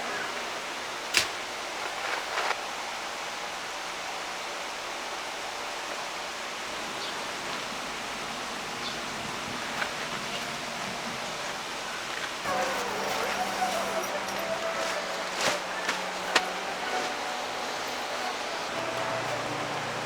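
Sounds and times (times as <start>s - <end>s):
mountain stream rushing: 0.3s - 20.0s.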